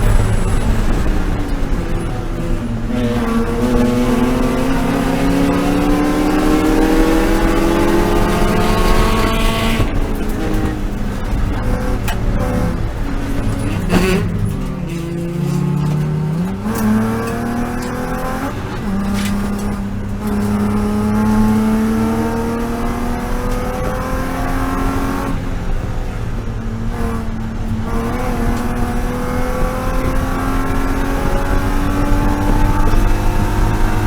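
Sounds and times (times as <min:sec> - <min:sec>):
race car engine accelerating: 0:00.0 - 0:34.0.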